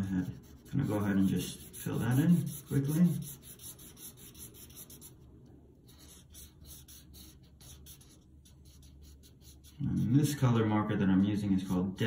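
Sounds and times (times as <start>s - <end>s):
marker scratching on paper: 0.0s - 5.2s, 5.8s - 10.4s.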